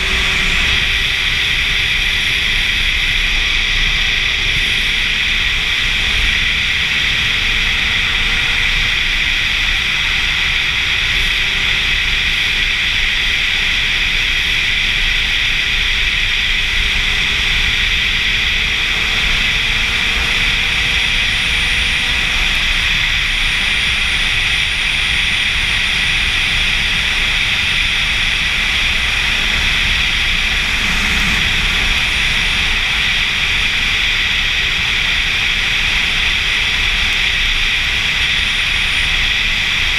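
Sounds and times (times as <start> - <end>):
faint motorcycle engine: 0.0 - 39.9
wind rush over microphone: 0.0 - 39.9.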